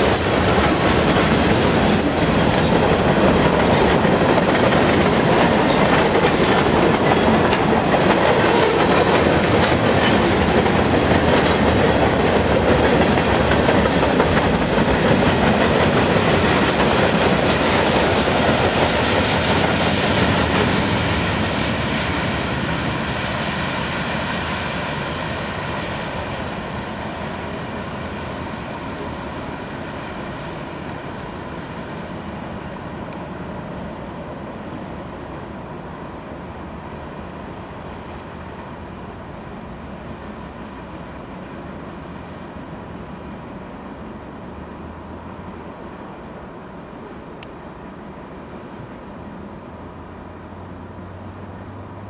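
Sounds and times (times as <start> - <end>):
train cars rumbling on rails: 0.0 - 52.0.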